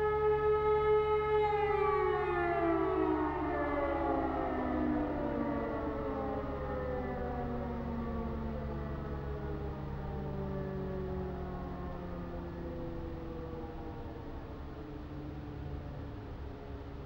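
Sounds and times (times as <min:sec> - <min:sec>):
siren steady tone winding down: 0:00.0 - 0:17.0.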